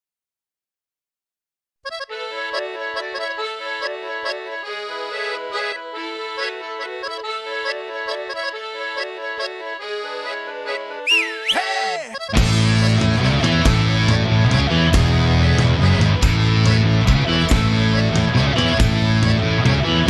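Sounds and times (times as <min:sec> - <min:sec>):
accordion melody: 0:01.8 - 0:20.0.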